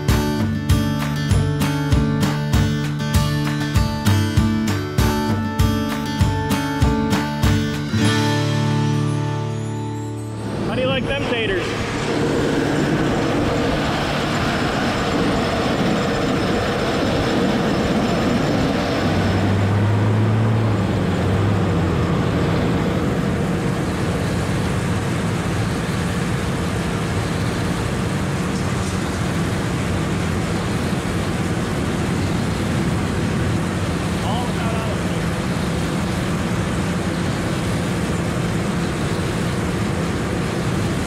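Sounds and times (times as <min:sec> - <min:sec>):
engine drone: 0:00.0 - 0:41.0.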